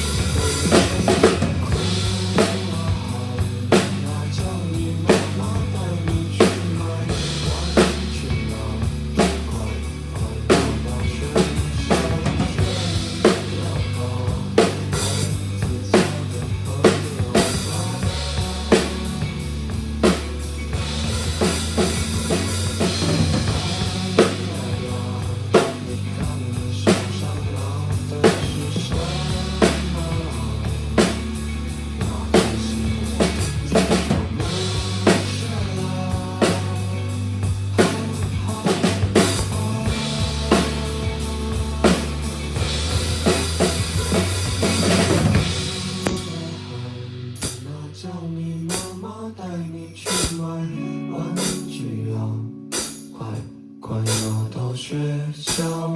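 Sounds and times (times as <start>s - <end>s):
drum kit rock beat: 0.0s - 47.8s, 48.7s - 49.1s, 50.0s - 50.6s, 51.4s - 51.8s, 52.7s - 53.5s, 54.1s - 54.5s, 55.5s - 55.9s
band backing track: 0.0s - 48.0s, 48.6s - 49.2s, 50.0s - 50.6s, 51.3s - 54.8s, 55.5s - 55.9s.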